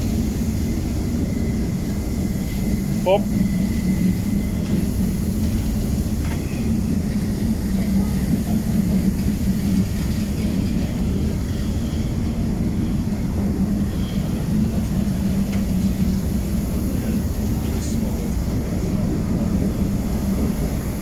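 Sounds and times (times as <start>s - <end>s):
train coaches rolling past: 0.0s - 21.0s.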